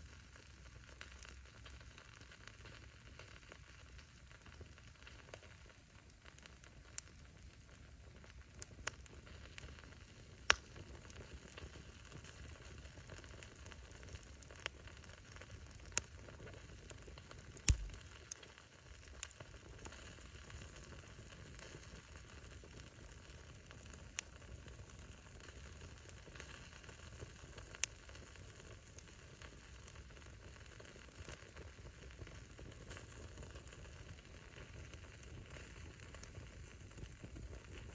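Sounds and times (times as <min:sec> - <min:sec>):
bonfire crackling: 0:00.0 - 0:37.9
burning wood popping: 0:00.3 - 0:37.9.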